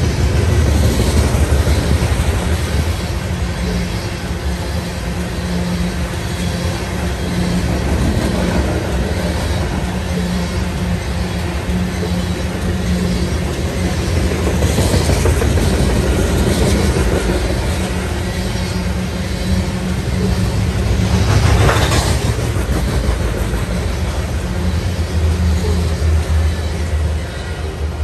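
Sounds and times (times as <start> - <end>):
freight train wheels clattering: 0.0 - 28.0.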